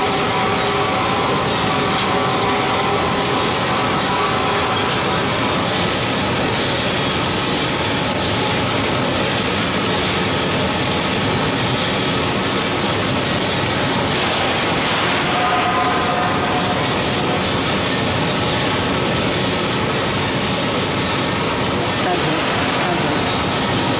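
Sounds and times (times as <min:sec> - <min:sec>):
coffee roaster cooling tray running: 0:00.0 - 0:23.9.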